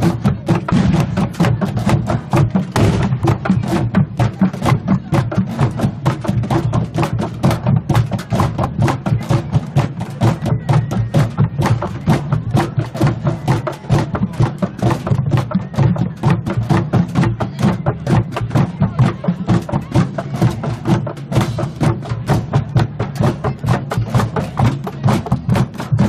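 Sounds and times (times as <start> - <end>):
drum band playing fast beat: 0.0 - 26.0.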